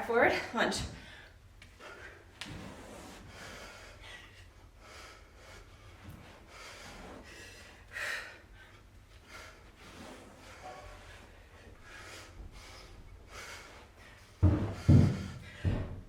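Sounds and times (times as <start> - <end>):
heavy sharp breathing: 1.0 - 16.0.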